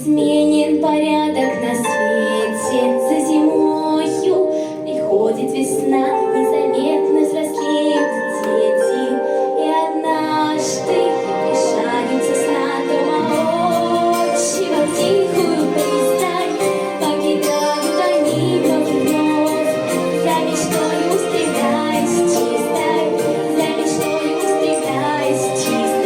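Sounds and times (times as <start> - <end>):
melody over held accompaniment: 0.2 - 26.0.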